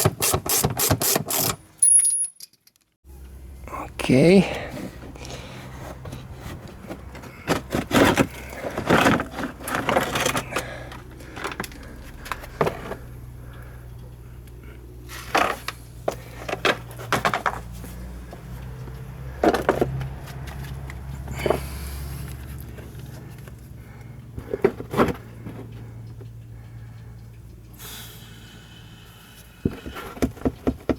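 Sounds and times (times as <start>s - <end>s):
steady low hum: 3.1s - 30.4s.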